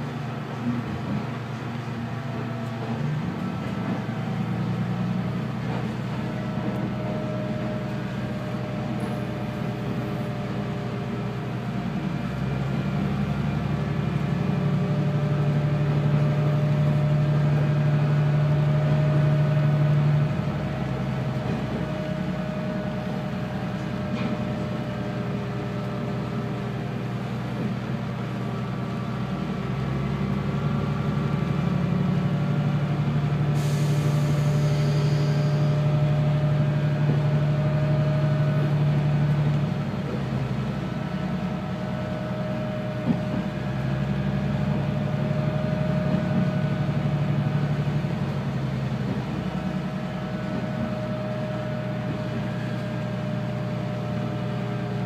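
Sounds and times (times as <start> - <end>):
diesel railcar engine droning: 0.0 - 55.0
rail noise: 0.0 - 55.0.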